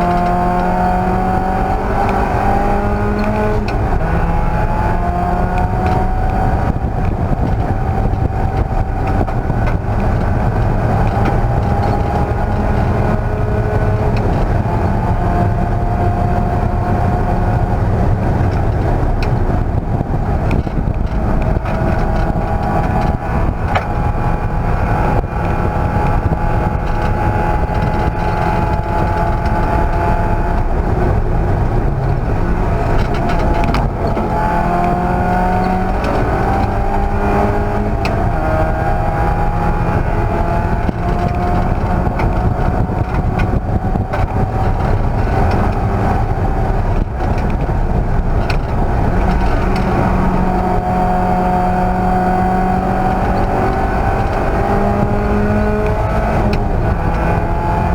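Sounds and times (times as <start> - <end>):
race car engine: 0.0 - 57.9.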